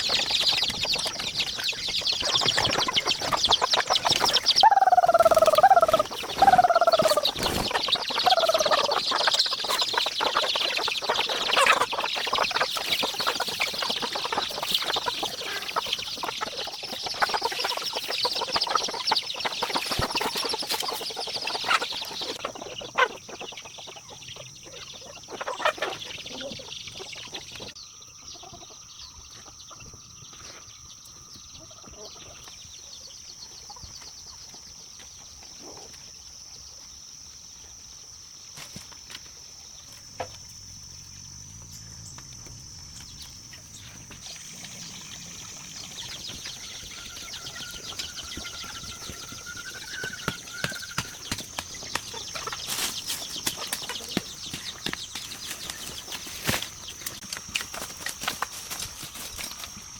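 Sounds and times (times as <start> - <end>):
chickens clucking: 0.0 - 37.9, 42.2 - 59.9.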